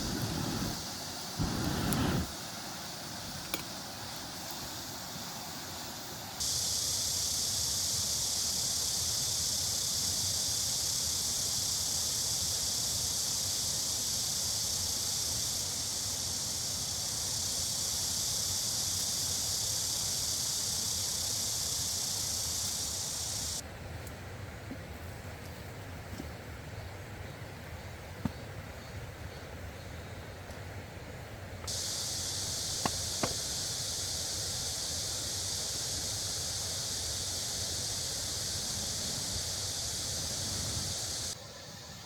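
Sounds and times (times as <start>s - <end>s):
loud steady hiss: 0.0s - 42.0s.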